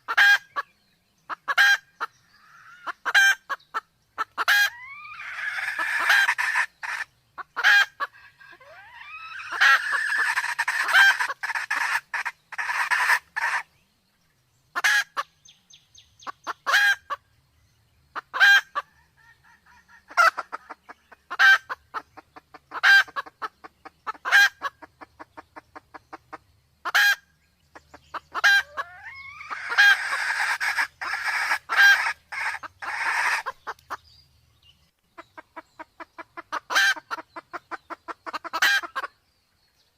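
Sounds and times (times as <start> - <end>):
junglefowl clucking: 0.0 - 0.7, 1.3 - 13.7, 14.7 - 15.3, 16.2 - 17.2, 18.1 - 34.0, 35.2 - 39.2
rapid dense bird calling: 0.0 - 39.9.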